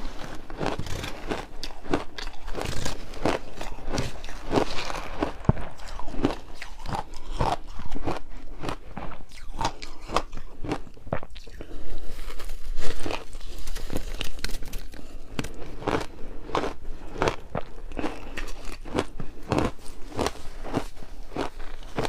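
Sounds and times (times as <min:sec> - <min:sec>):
biting crunchy ice: 0:00.0 - 0:11.7, 0:13.0 - 0:22.0
chewing: 0:00.0 - 0:22.0.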